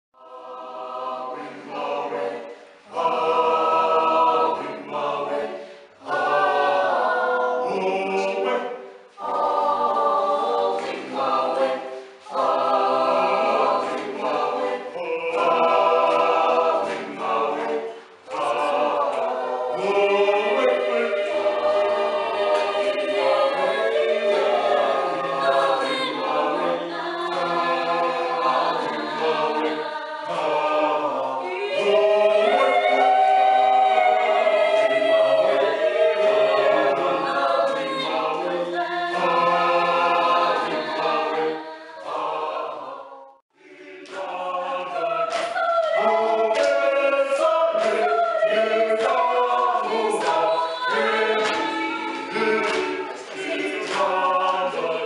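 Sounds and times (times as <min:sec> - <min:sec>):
choir singing: 0:00.2 - 0:55.0.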